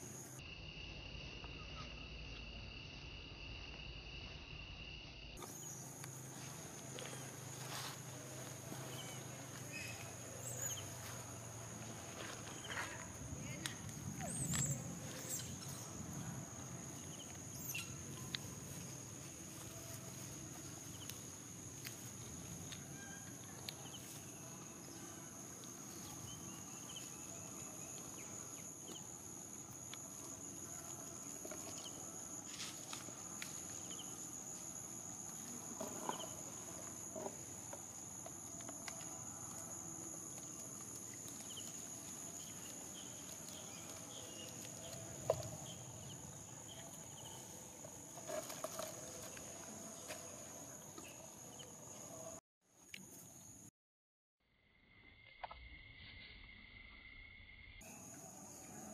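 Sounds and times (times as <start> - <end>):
insects droning: 0.0 - 53.7, 54.5 - 58.9.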